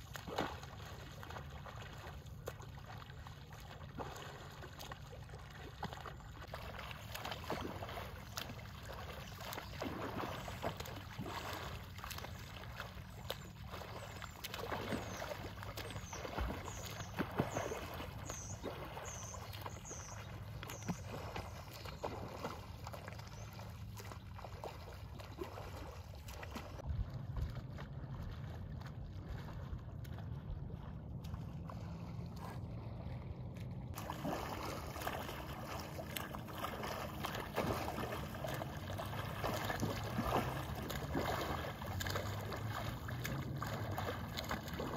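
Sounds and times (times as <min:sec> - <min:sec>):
paddle strokes in water: 0:00.0 - 0:44.9
swimmer splashing: 0:00.0 - 0:44.9.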